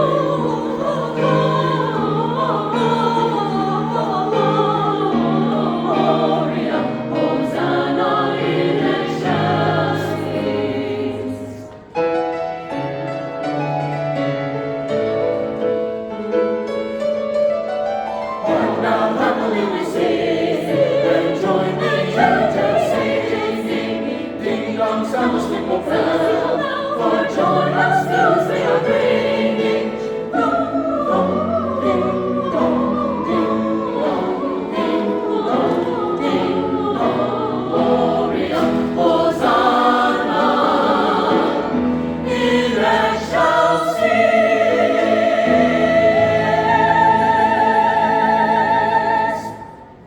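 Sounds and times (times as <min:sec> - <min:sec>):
choir singing: 0:00.0 - 0:12.0, 0:18.2 - 0:50.0.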